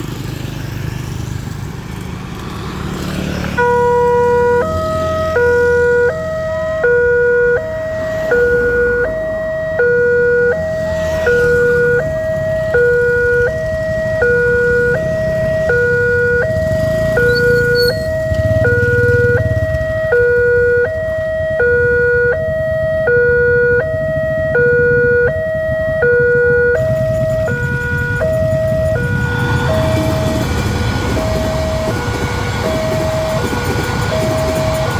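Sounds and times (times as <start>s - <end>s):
level crossing two-tone alarm: 3.6s - 34.9s.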